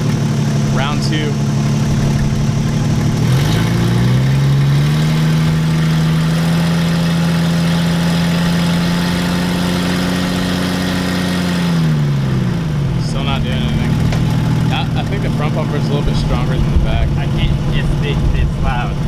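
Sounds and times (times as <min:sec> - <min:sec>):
car engine straining under load: 0:00.0 - 0:19.0.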